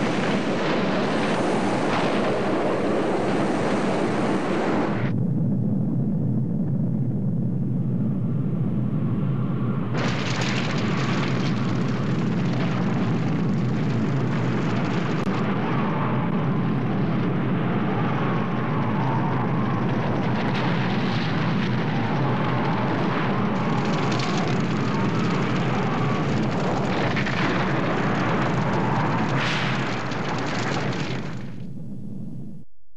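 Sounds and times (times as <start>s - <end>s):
hiss of rushing wind and fire: 0.0s - 32.0s
deep rumble: 0.0s - 32.7s.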